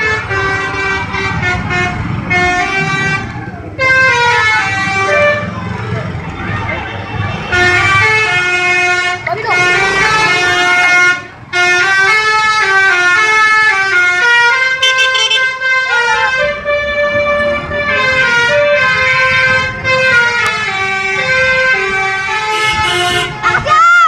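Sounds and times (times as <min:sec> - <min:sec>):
musical air horn playing tune: 0:00.0 - 0:05.5, 0:07.5 - 0:23.7
low engine rumble: 0:00.0 - 0:24.0.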